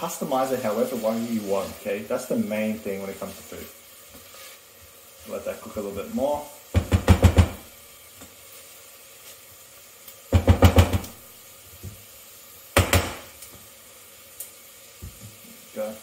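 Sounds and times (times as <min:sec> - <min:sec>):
onions sizzling: 0:00.0 - 0:16.0.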